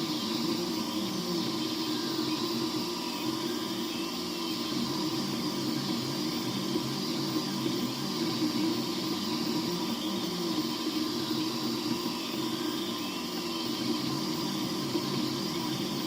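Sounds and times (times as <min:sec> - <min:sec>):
cooling fan hiss: 0:00.0 - 0:16.0
stepper motors whining: 0:00.0 - 0:16.0.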